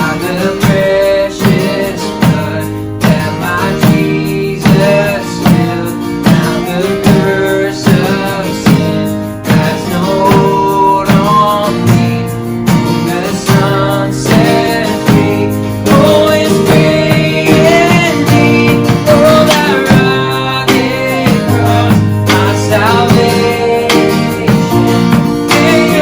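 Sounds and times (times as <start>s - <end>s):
guitar strumming: 0.0s - 26.0s
worship band music: 0.0s - 26.0s.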